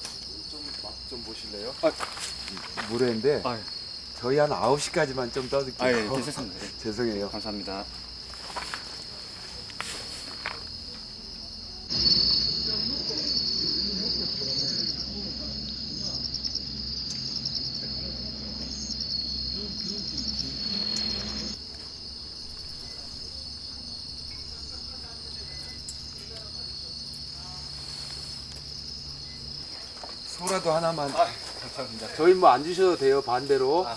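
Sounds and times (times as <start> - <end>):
insects trilling: 0.0 - 33.9.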